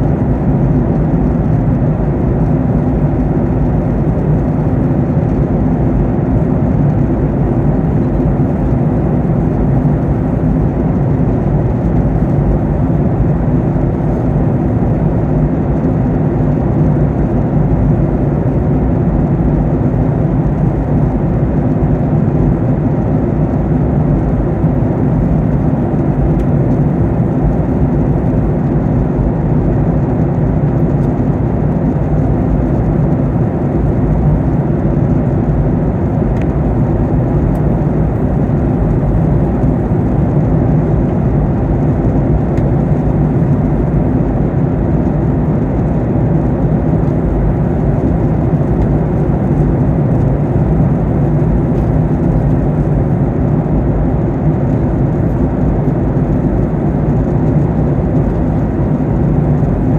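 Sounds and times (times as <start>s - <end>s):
airflow rushing in aircraft cabin: 0.0s - 59.9s
jet engines humming: 0.0s - 59.9s.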